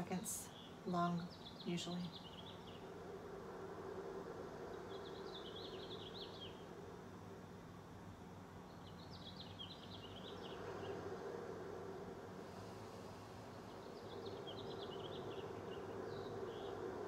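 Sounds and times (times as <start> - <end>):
faint high chirping: 0.0 - 7.7, 8.3 - 17.0
steady low hum: 0.0 - 17.0.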